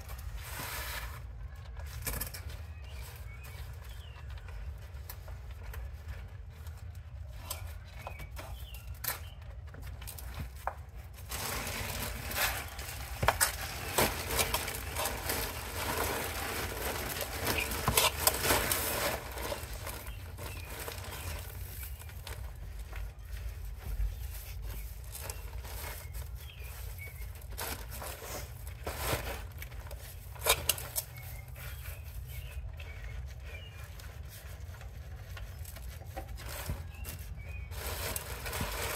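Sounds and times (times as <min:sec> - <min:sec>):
plastic bag rustling and crinkling: 0:00.0 - 0:38.9.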